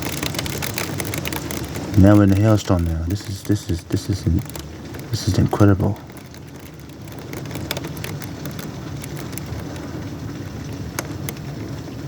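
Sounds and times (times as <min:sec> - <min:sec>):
hailstones ticking on window: 0:00.0 - 0:12.0
rain hissing on window: 0:00.0 - 0:12.0.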